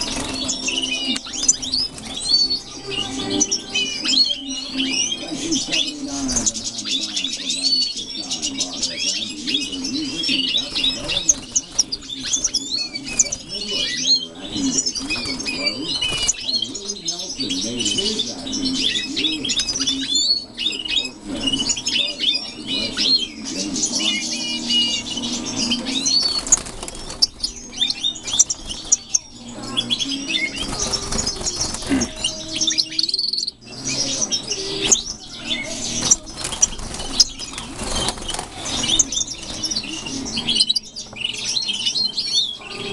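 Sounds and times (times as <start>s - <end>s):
finches twittering and chirping: 0.0s - 42.9s.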